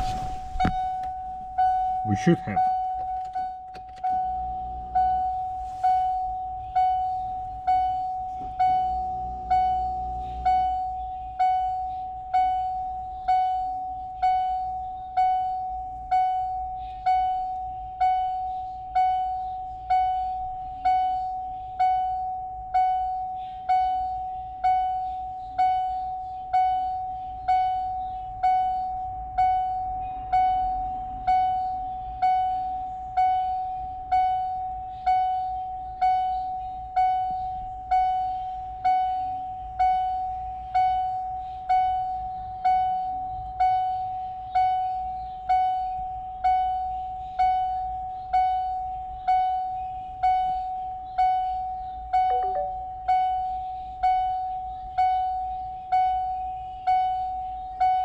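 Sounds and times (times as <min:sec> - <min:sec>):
car warning chime: 0:00.0 - 0:58.0.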